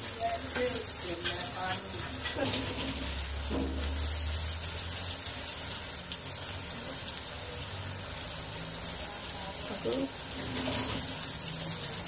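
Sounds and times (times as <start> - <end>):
oil bubbling and crackling: 0.0 - 12.0.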